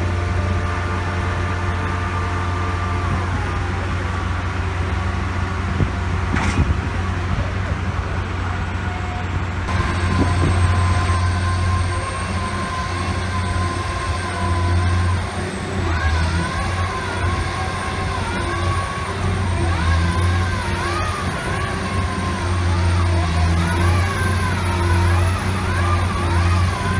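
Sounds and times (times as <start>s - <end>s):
piling rig engine drone: 0.0s - 26.9s
wavering high whine: 0.0s - 26.9s.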